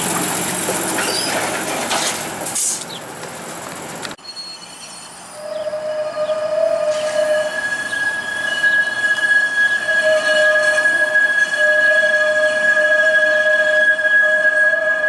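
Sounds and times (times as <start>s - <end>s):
streetcar wheels squealing on rails: 0.0s - 3.1s, 3.9s - 15.0s.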